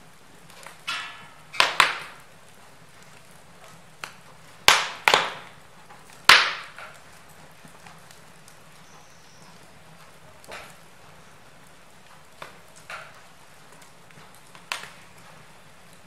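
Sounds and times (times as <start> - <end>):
faint steady hiss: 0.0 - 16.0
wood fire crackling and popping: 0.0 - 16.0.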